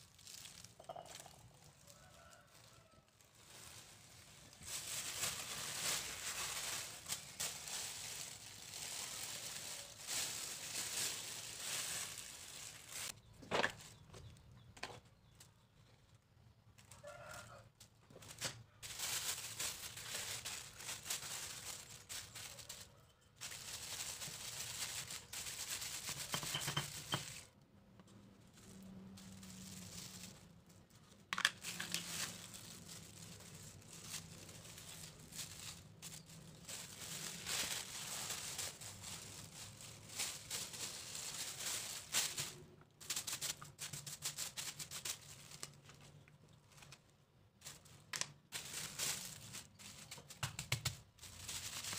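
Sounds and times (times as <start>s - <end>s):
plastic sheet crinkling: 0.0s - 14.1s, 16.8s - 51.9s.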